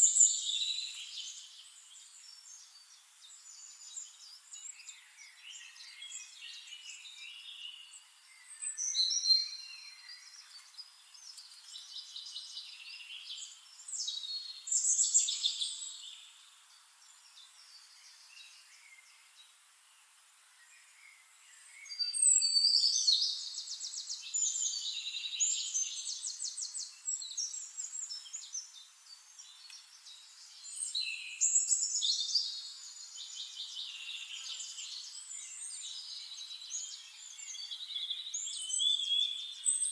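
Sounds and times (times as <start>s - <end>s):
songbirds trilling and whistling: 0.0s - 19.7s, 20.5s - 39.9s.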